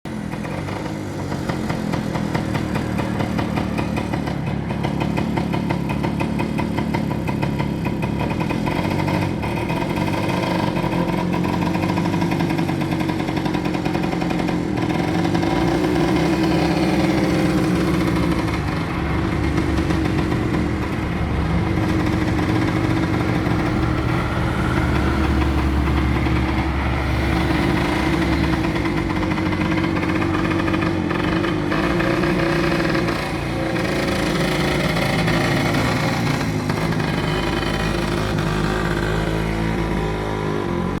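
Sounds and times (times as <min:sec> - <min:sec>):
engine running: 0:00.1 - 0:41.0.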